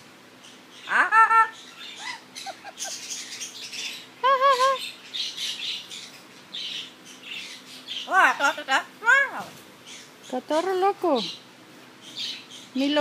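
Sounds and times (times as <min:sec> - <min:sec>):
parrot calling: 0:00.5 - 0:11.4.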